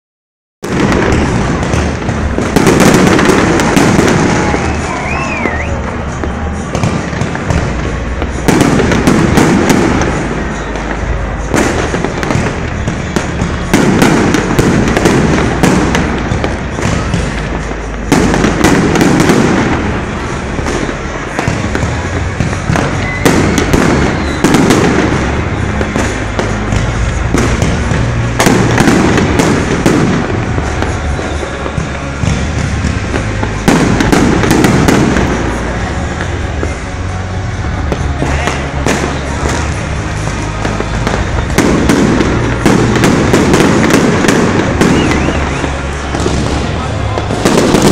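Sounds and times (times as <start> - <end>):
fireworks bursts: 0.6 - 47.9
fireworks crackling: 0.6 - 47.9.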